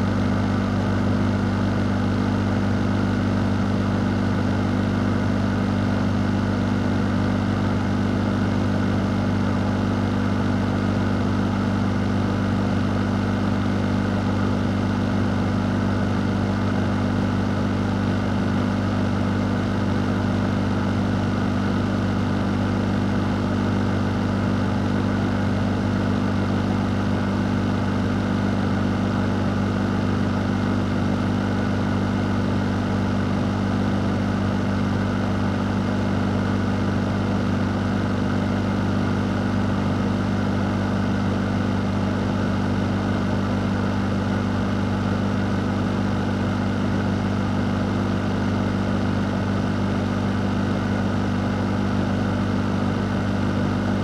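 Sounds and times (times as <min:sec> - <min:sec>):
fan running: 0:00.0 - 0:54.0.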